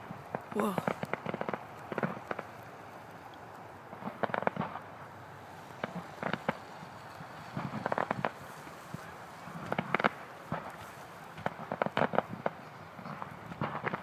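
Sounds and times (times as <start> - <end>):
fireworks popping and crackling: 0.0 - 14.0.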